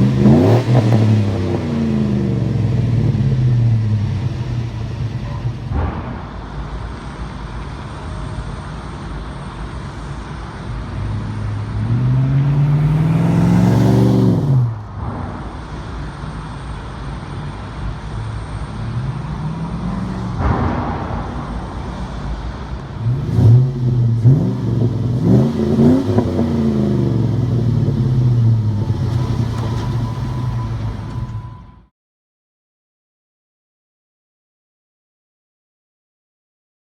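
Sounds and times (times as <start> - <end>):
truck engine idling and revving: 0.0 - 31.9.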